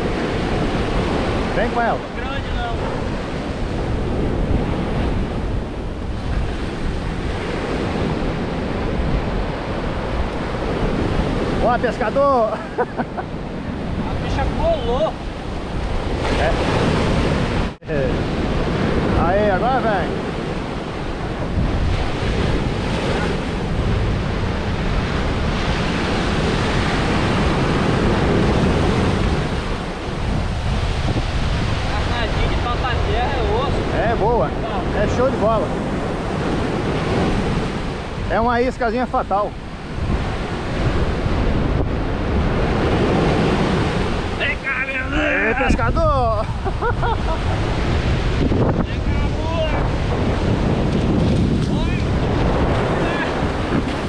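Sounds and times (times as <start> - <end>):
waves breaking on a beach: 0.0 - 54.0
wind buffeting microphone: 0.0 - 54.0.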